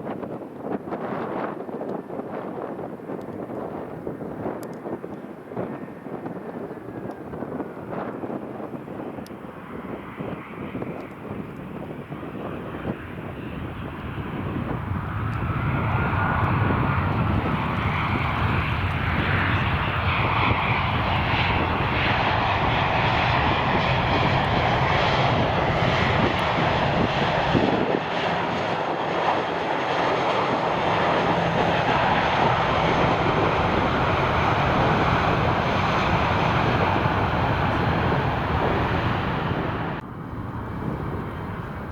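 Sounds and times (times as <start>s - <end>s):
jet aircraft engines: 0.0s - 41.9s.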